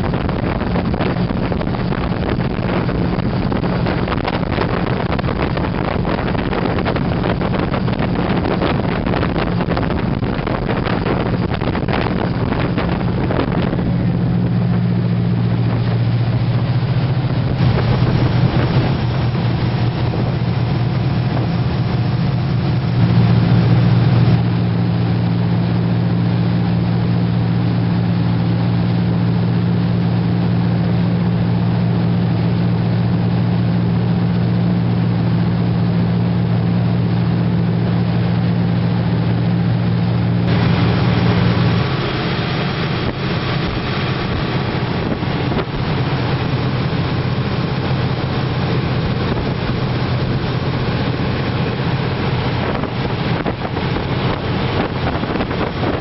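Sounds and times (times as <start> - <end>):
ferry engines droning: 0.0 - 56.0
water rushing in wake: 0.0 - 56.0
wind: 0.0 - 56.0.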